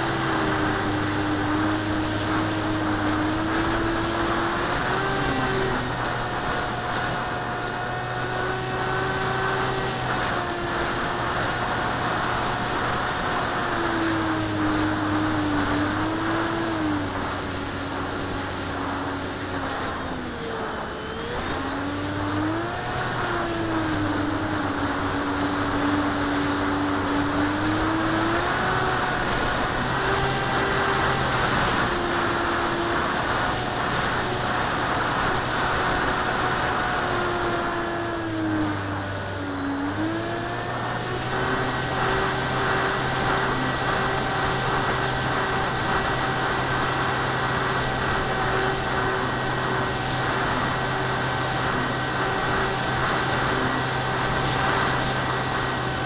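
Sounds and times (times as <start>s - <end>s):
model plane motor whining: 0.0s - 56.0s.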